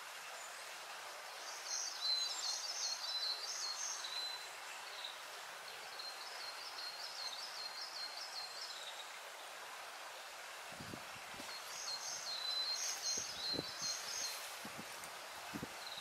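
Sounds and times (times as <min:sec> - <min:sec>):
stream trickling over rocks: 0:00.0 - 0:16.0
songbird singing: 0:01.3 - 0:09.6, 0:11.4 - 0:16.0.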